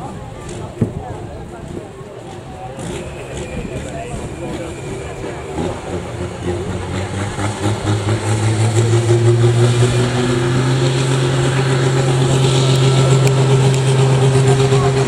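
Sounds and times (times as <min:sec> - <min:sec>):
tractor diesel engine revving: 0:01.5 - 0:15.0.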